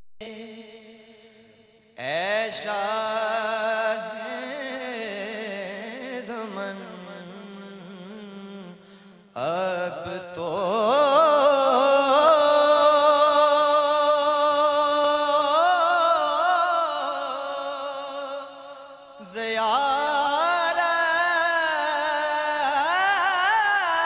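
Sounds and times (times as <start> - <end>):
man reciting in song: 0.0 - 24.0.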